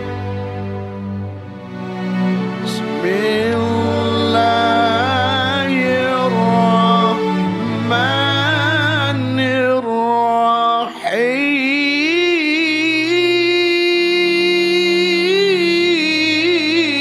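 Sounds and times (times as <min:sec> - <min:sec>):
person singing long wavering notes: 0:02.7 - 0:17.0.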